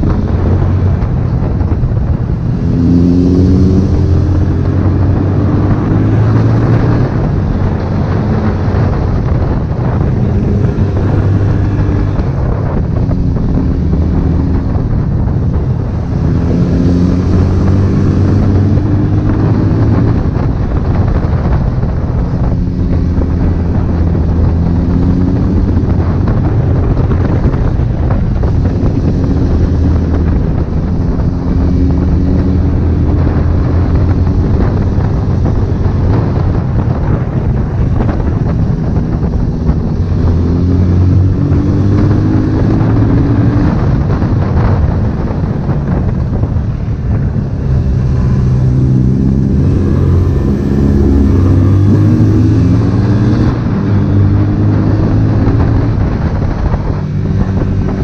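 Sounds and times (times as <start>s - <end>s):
motorcycle engine accelerating: 0.0s - 58.0s
wind rushing over microphone: 0.0s - 58.0s.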